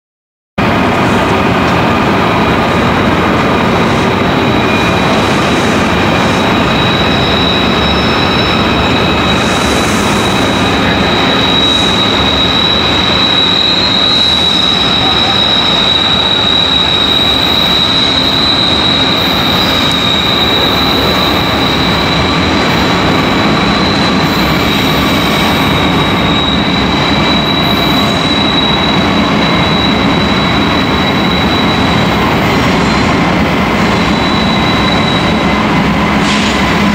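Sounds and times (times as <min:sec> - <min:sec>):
freight train rumble: 0:00.6 - 0:36.9
train wheels squealing: 0:03.6 - 0:36.9.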